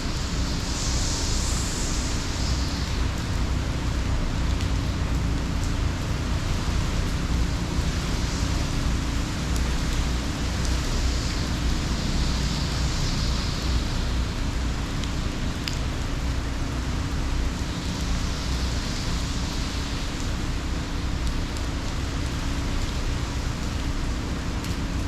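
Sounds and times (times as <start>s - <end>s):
heavy rain hiss: 0.0s - 25.0s
wind rumbling on microphone: 0.0s - 25.0s.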